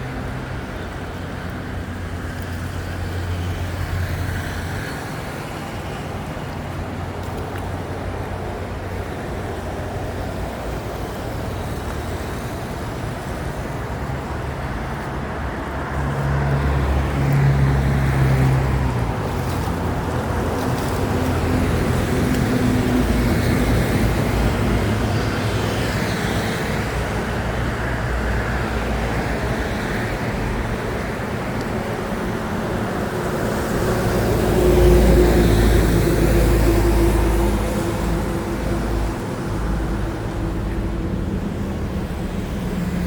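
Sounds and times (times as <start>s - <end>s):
excavator diesel engine: 3.0s - 43.0s.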